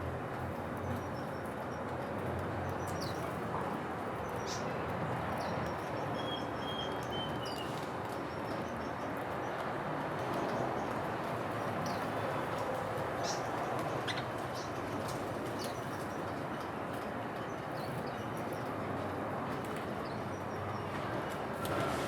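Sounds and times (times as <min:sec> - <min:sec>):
songbirds chirping: 0:00.4 - 0:21.9.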